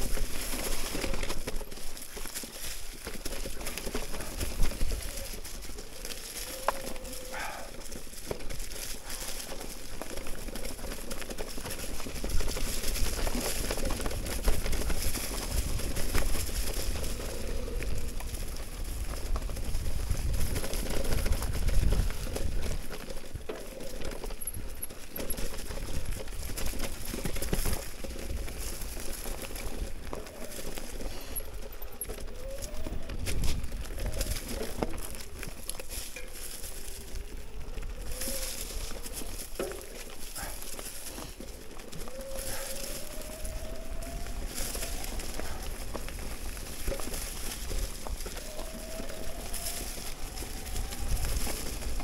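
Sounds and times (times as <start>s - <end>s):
bike frame rattling: 0.0s - 52.0s
tyres crunching over dry leaves: 0.0s - 52.0s.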